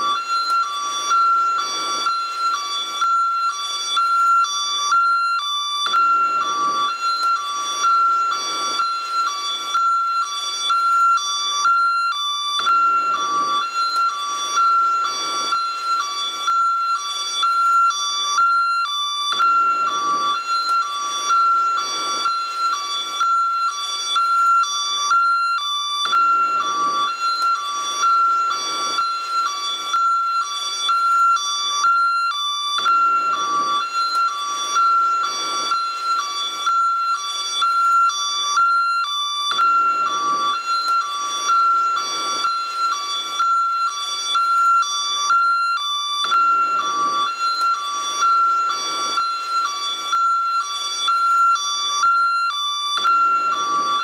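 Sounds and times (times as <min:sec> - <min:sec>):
two-tone ambulance siren: 0:00.0 - 0:54.0.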